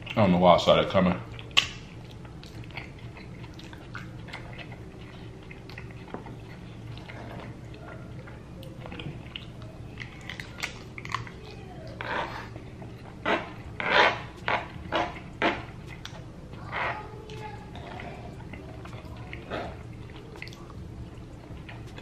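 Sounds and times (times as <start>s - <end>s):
wet chewing clicks: 1.2s - 22.0s.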